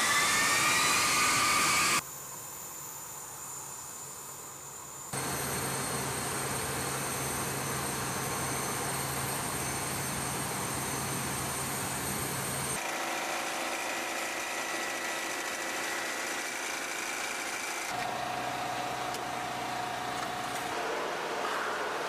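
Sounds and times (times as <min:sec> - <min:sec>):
jet engines running: 0:00.0 - 0:02.0, 0:05.2 - 0:22.0.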